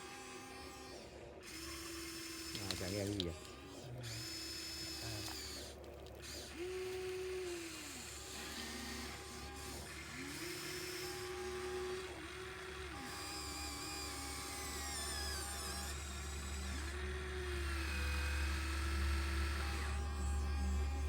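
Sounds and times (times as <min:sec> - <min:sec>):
small electric motors whining: 0:00.0 - 0:21.0
steady low hum: 0:01.6 - 0:21.0.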